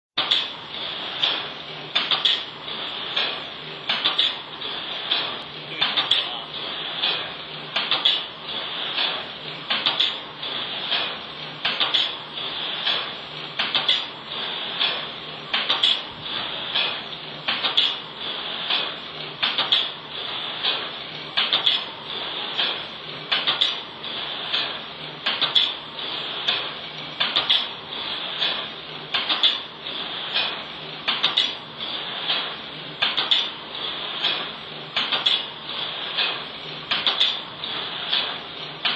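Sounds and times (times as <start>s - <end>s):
machine clicks and clatters: 0.2s - 38.9s
metallic clacks: 0.2s - 38.9s
steady machine noise: 0.2s - 38.9s.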